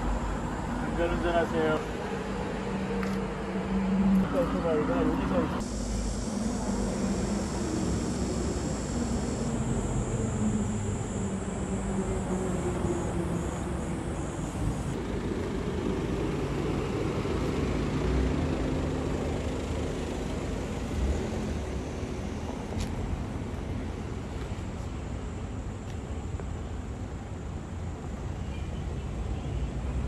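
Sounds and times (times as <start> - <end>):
car engine low rumble: 0.0 - 26.7.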